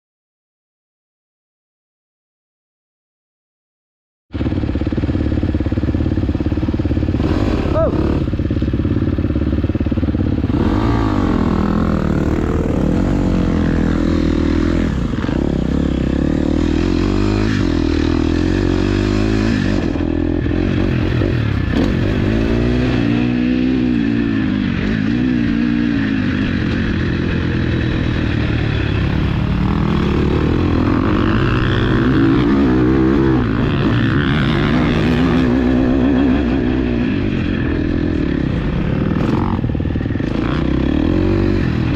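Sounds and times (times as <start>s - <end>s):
motocross engine revving: 4.4s - 41.9s.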